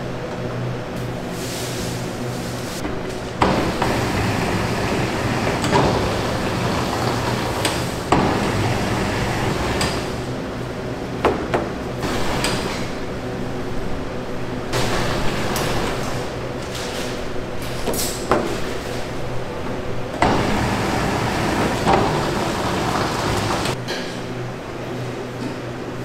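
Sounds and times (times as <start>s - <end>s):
machine hum: 0.0s - 17.8s, 18.8s - 26.0s.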